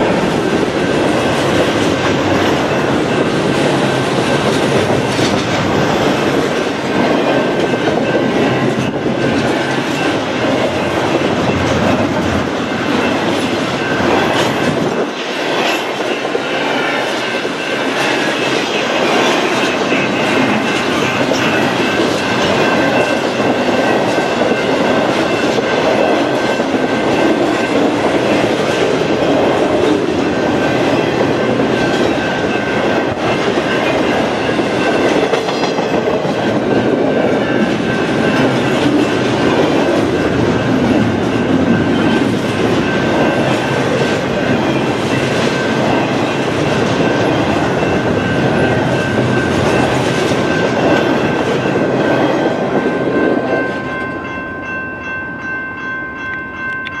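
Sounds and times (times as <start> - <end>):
wheels clattering on rail joints: 0.0 - 54.4
freight train rumbling past: 0.0 - 57.0.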